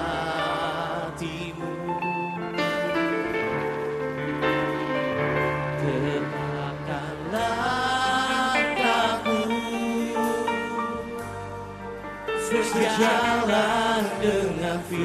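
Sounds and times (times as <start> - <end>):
man singing: 0.0 - 3.8, 5.6 - 11.4, 12.4 - 15.0
sustained chords: 0.0 - 15.0.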